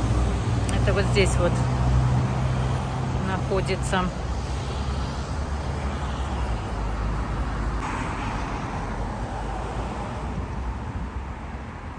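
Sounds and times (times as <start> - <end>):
road traffic rumble: 0.0 - 11.9.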